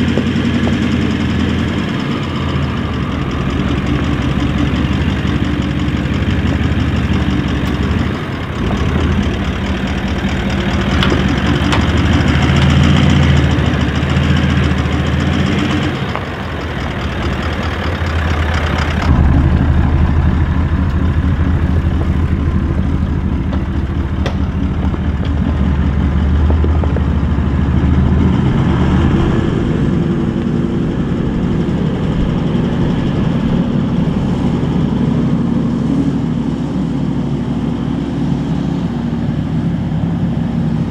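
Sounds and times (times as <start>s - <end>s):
engine running at low revs: 0.0s - 40.9s.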